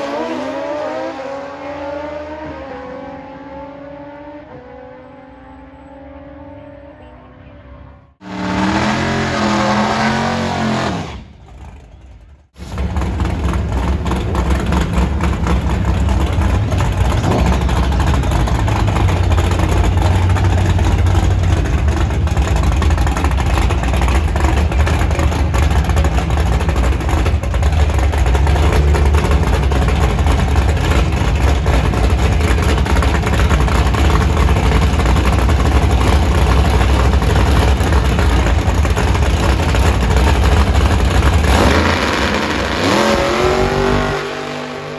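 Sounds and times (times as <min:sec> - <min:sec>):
drag racing car engine revving: 0:08.2 - 0:44.9.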